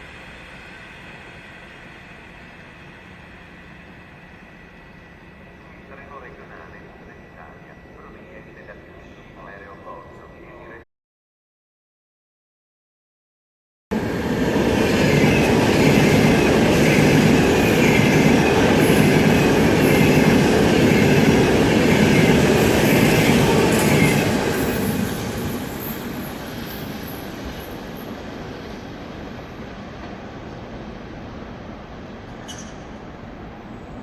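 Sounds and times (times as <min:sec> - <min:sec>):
train rumbling on rails: 0:00.0 - 0:10.8, 0:13.9 - 0:34.0.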